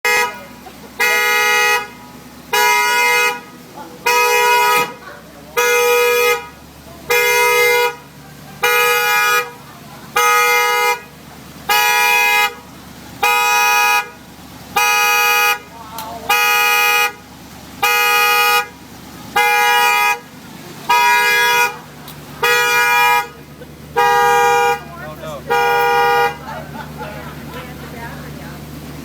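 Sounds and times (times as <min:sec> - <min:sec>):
car alarm horn blasts: 0:00.0 - 0:27.5.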